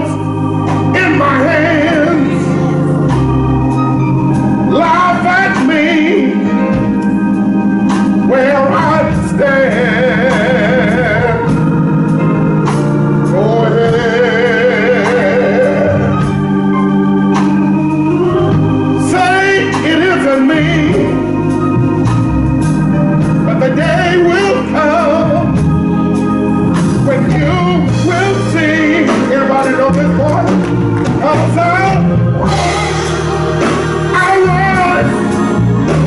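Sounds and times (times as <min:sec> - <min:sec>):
man singing gospel: 0:00.0 - 0:36.0
organ chords: 0:00.0 - 0:36.0.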